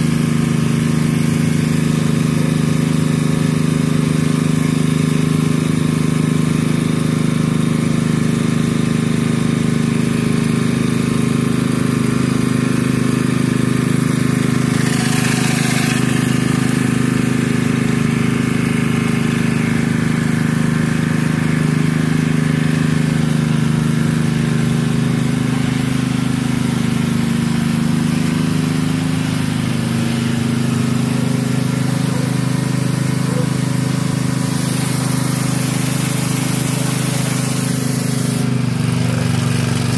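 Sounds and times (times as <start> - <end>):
pressure washer engine running: 0.0 - 39.9
water jet hissing on pavers: 0.0 - 39.9.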